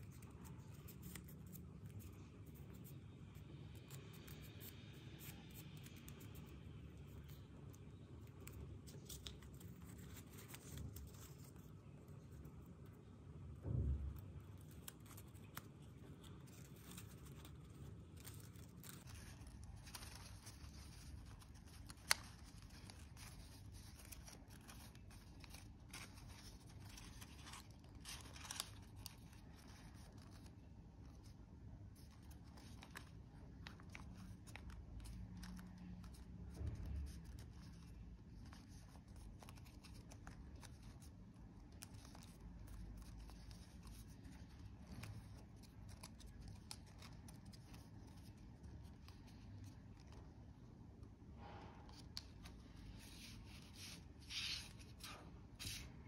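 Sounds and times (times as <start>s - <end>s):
paper rustling and crinkling: 0.0s - 3.0s, 3.7s - 12.8s, 13.8s - 56.0s.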